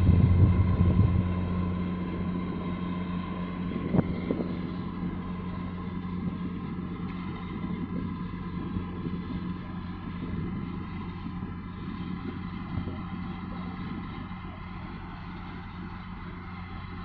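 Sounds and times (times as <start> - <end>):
boat engines humming: 0.0 - 17.0
faint steady whine: 0.0 - 17.0.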